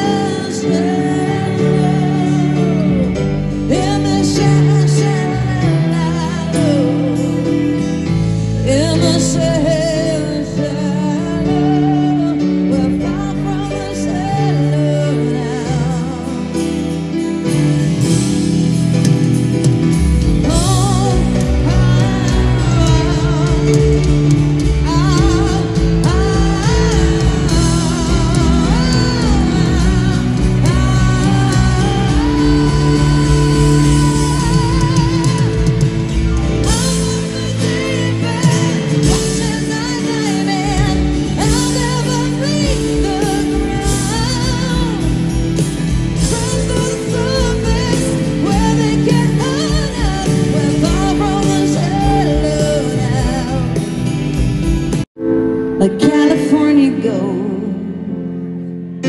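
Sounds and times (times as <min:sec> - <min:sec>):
live rock ballad: 0:00.0 - 0:59.0.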